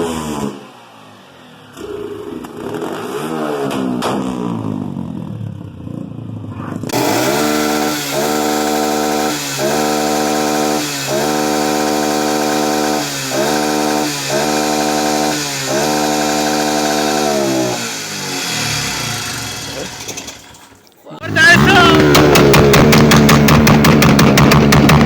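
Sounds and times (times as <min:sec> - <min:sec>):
motorcycle engine at rev limiter: 0:00.0 - 0:25.0
motorcycle engine revving: 0:00.0 - 0:25.0.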